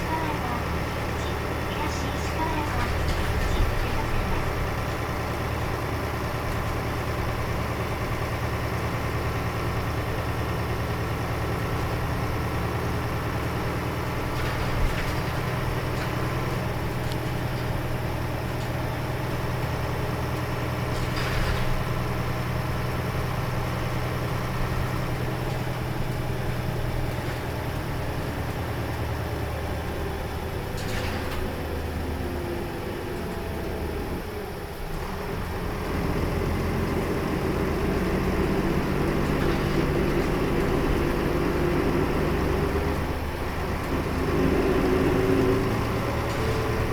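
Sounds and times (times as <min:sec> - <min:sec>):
bus diesel engine drone: 0:00.0 - 0:46.9.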